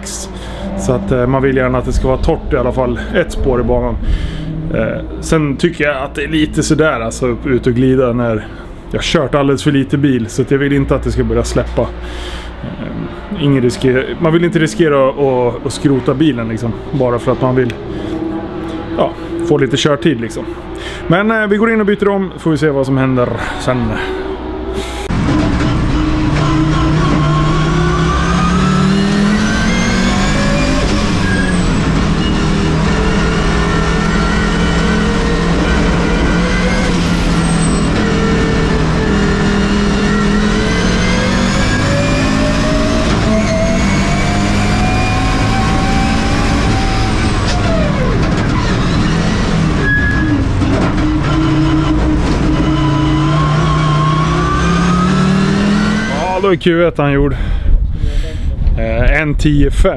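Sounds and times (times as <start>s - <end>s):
race car engine accelerating: 0.0s - 56.5s.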